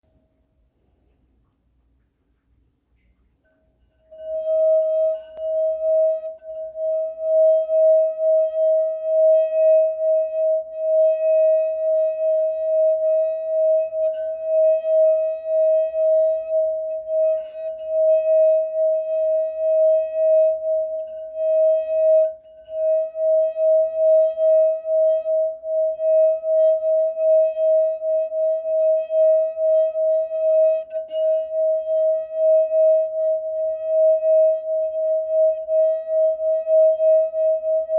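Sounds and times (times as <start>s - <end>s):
wine glass rim singing: 3.4s - 37.9s.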